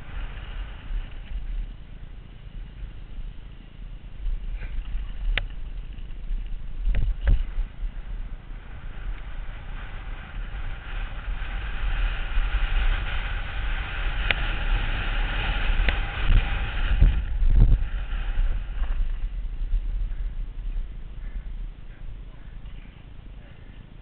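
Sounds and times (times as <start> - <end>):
bike rattling: 0.0 - 24.0
tyres on gravel: 0.0 - 24.0
wind rumbling on microphone: 0.0 - 24.0.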